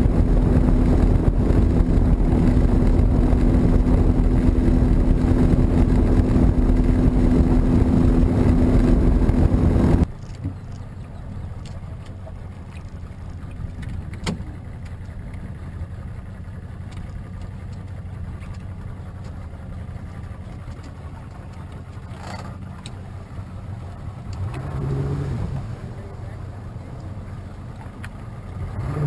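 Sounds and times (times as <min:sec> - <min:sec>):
low rumble: 0:00.0 - 0:29.0
outboard motor running: 0:00.0 - 0:29.0.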